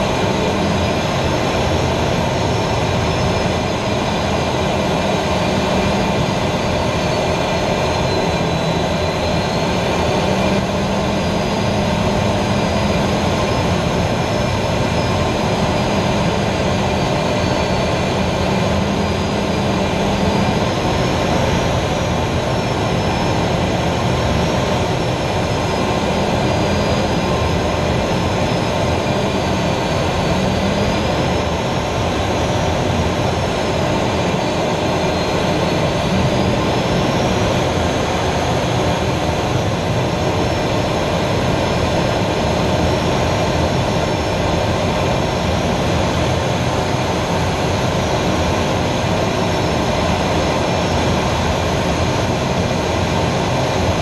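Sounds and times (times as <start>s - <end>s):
jet engine running: 0.0s - 54.0s.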